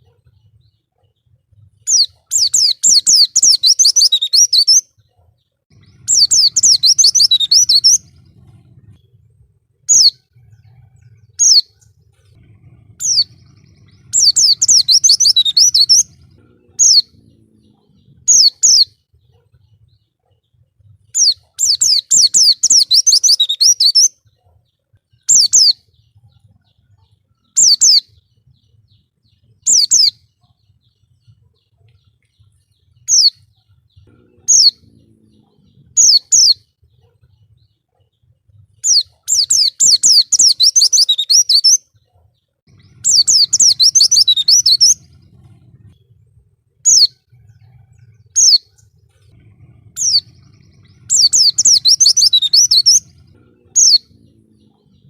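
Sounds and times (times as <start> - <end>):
bird rapid twittering song: 0.0 - 55.0.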